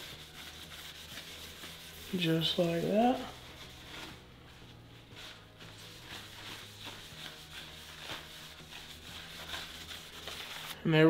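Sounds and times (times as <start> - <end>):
hand rubbing wax into wood: 0.0 - 10.8.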